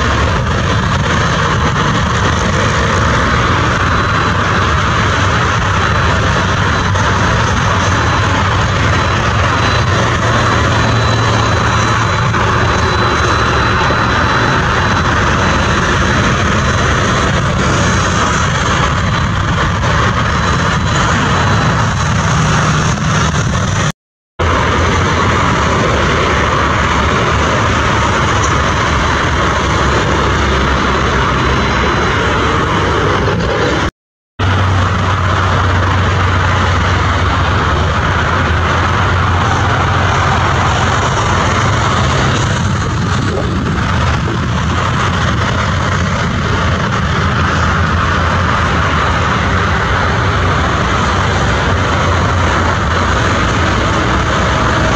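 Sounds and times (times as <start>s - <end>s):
jet engines rumbling at taxi power: 0.0s - 54.9s.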